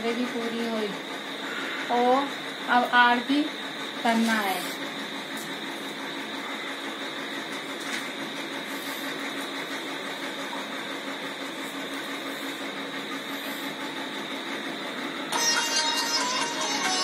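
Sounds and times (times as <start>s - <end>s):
steady background hum and hiss: 0.0s - 17.0s.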